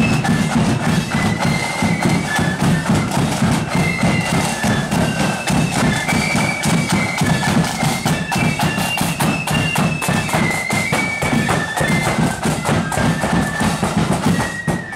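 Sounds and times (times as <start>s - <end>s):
flute band playing tune: 0.0s - 14.9s
marching drums: 0.0s - 14.9s.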